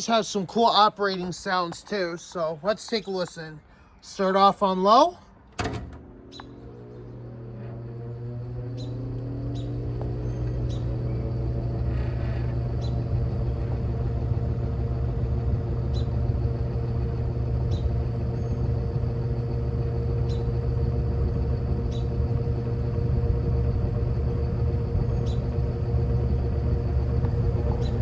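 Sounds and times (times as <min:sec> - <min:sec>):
box fan motor hum: 0:04.9 - 0:28.0.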